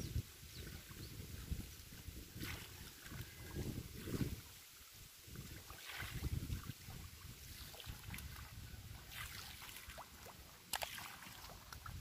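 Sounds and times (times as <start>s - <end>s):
wind rumbling on microphone: 0.0s - 10.4s, 11.3s - 12.0s
water sloshing and splashing: 0.6s - 12.0s.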